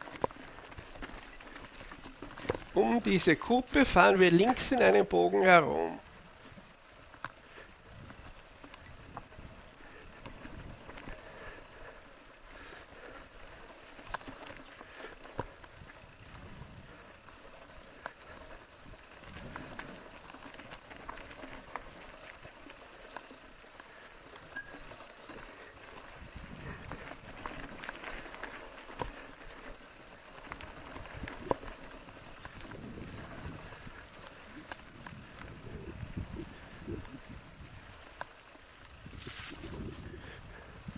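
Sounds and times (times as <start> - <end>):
mountain bike rattling over bumps: 0.0 - 40.9.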